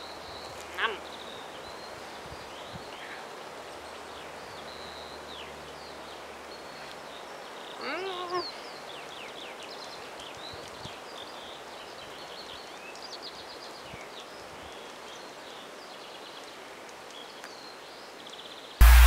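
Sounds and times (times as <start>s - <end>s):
songbirds singing: 0.0s - 18.8s
faint outdoor hiss: 0.0s - 19.0s.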